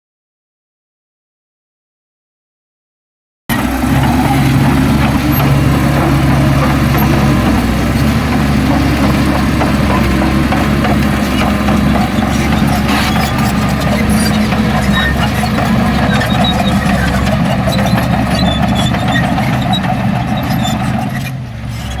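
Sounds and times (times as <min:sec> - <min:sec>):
heavy diesel engine running: 0:03.5 - 0:22.0.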